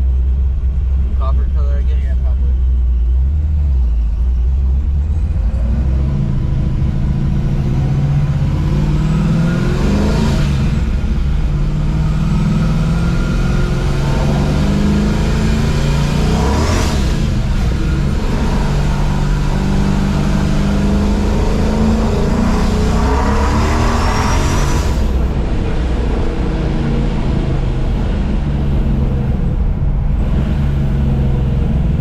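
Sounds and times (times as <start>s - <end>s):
car engine and exhaust: 0.0s - 32.0s.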